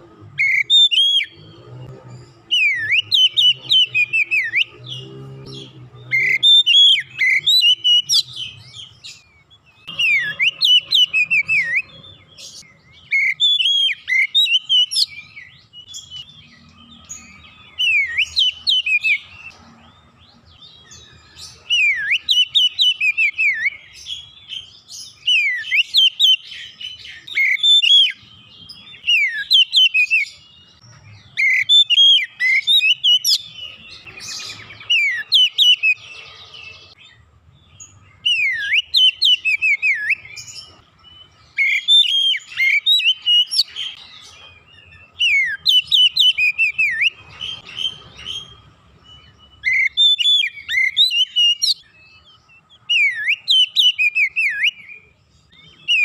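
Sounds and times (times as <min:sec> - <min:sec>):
bird singing whistled trills: 0:00.4 - 0:56.0.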